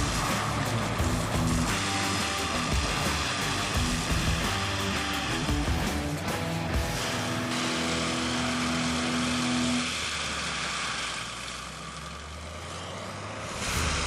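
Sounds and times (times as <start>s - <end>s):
heavy machinery running: 0.0s - 14.0s.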